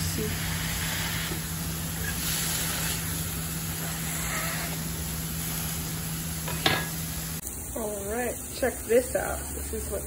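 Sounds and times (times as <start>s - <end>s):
mushrooms sizzling in skillet: 0.0s - 10.0s.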